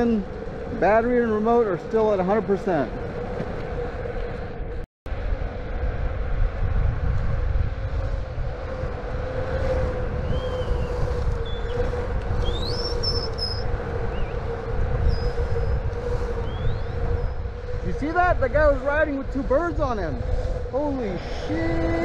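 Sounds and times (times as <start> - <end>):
wheels rumbling on pavement: 0.0 - 22.0
wind: 0.0 - 22.0.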